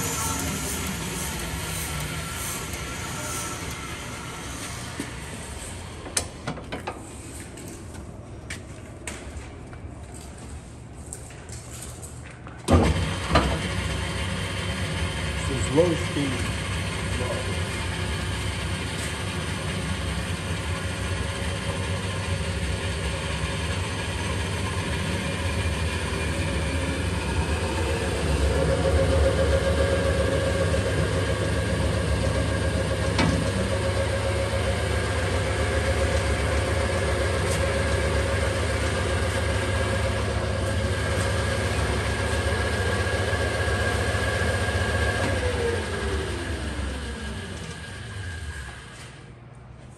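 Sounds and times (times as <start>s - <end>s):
band saw humming: 0.0s - 6.0s, 14.8s - 49.1s.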